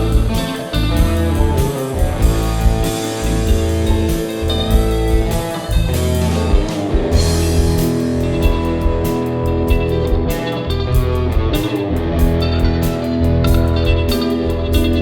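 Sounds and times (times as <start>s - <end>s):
bass line: 0.0s - 15.0s
blues guitar: 0.0s - 15.0s
drum beat: 0.0s - 15.0s.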